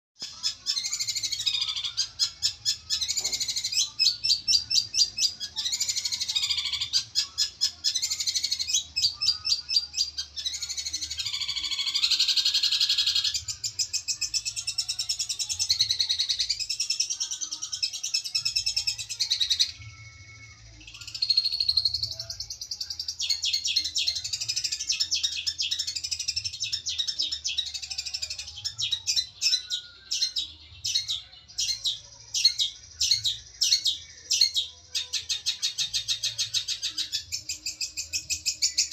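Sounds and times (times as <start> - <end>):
shrike singing rapid notes: 0.2 - 38.9.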